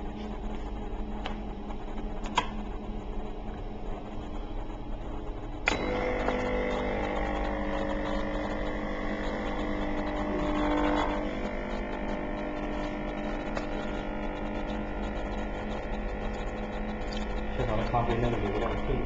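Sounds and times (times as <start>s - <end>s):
coffee machine pump humming: 0.0s - 19.0s.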